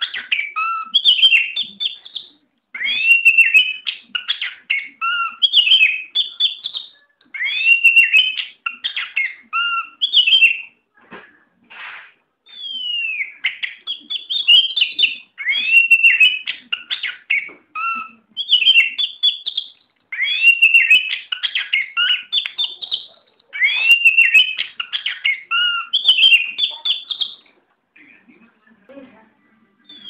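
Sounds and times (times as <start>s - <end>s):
bird singing whistled phrases: 0.0s - 10.7s, 12.5s - 27.5s.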